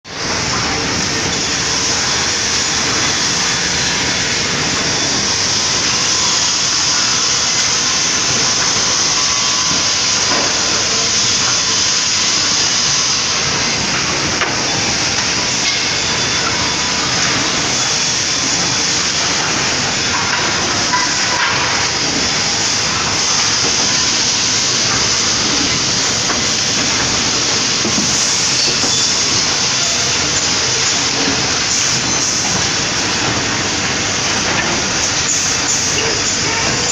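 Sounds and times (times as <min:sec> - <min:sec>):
woodworking machine hissing: 0:00.1 - 0:36.9.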